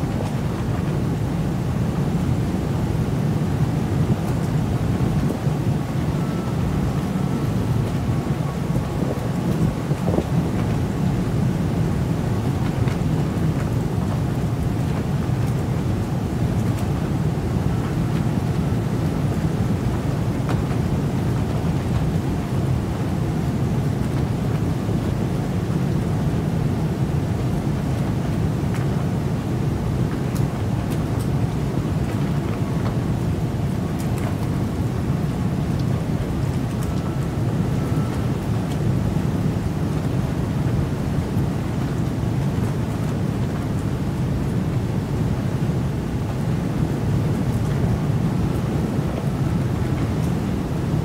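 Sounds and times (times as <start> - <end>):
rain and wind low rumble: 0.0 - 51.0.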